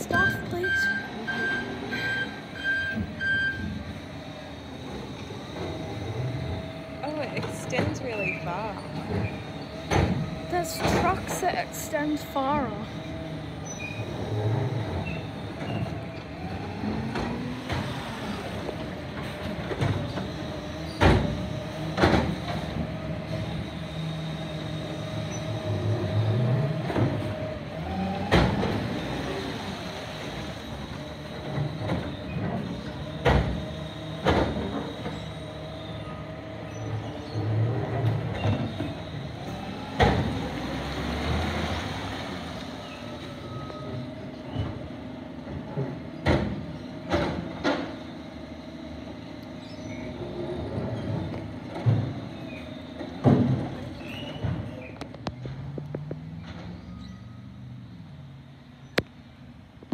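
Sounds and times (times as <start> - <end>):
garbage truck engine whine: 0.0 - 59.9.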